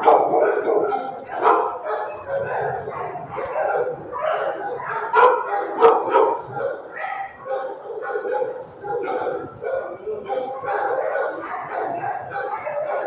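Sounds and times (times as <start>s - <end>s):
dogs barking: 0.0s - 13.0s.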